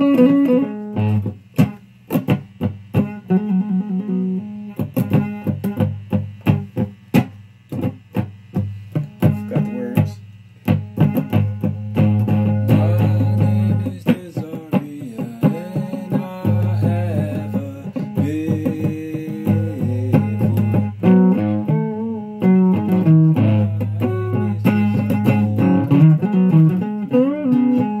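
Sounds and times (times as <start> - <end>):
fuzz electric guitar: 0.0 - 28.0.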